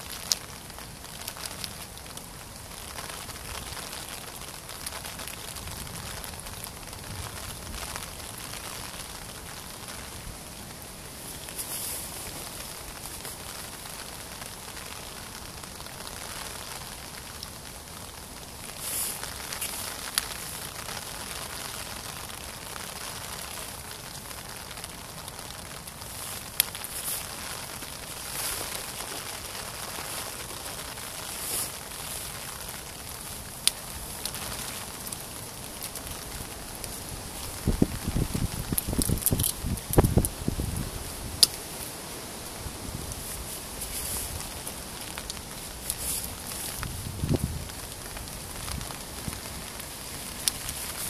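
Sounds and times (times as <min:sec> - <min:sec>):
rain pattering: 0:00.0 - 0:51.0.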